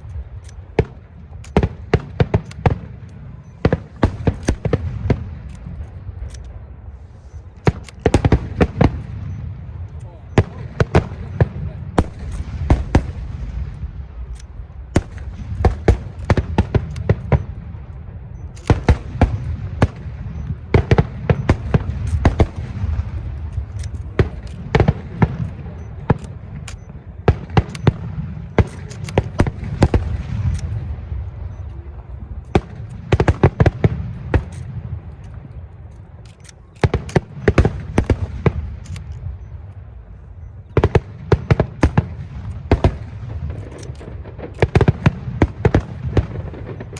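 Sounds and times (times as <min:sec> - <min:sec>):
low rumble and echo: 0:00.0 - 0:46.9.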